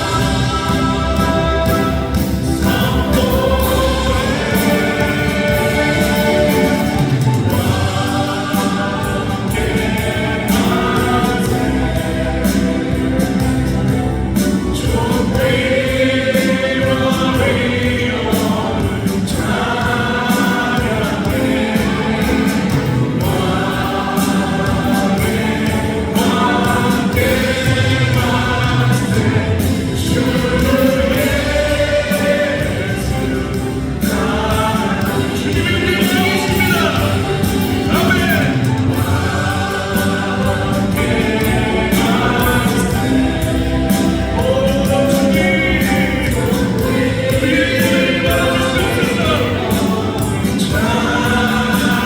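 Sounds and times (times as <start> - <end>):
gospel choir singing: 0.0 - 52.0.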